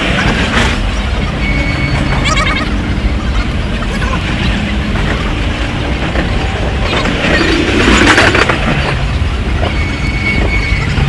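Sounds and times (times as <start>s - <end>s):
train rattling clatter: 0.0s - 11.0s
train rumble: 0.0s - 11.0s.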